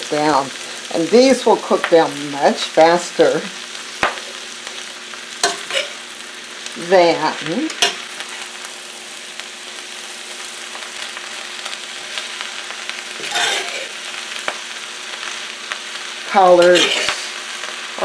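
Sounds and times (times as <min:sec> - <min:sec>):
greens sizzling in hot oil: 0:00.0 - 0:18.0.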